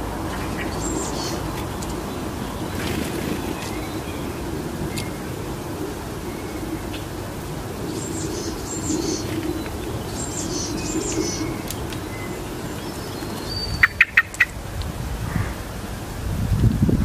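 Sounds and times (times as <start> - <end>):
songbirds chirping: 0.0 - 16.3.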